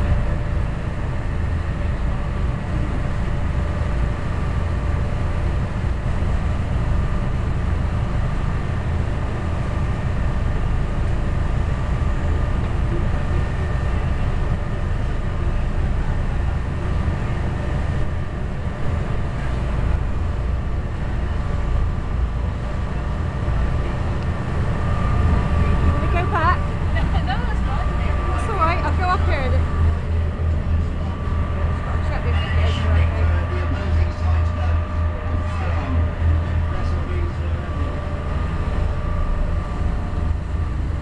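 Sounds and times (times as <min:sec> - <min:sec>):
boat engine rumbling: 0:00.0 - 0:41.0
water churning along hull: 0:00.0 - 0:41.0.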